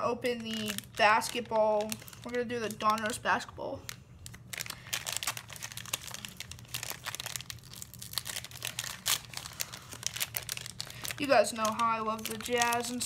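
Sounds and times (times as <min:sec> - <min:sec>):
card pack wrapper crinkling and tearing: 0:00.2 - 0:13.0.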